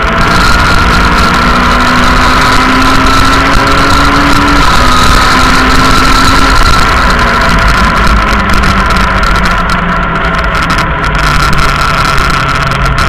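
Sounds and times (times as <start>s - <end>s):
high whine: 0.0s - 13.0s
rally car engine: 0.0s - 13.0s
road and wind noise: 0.0s - 13.0s.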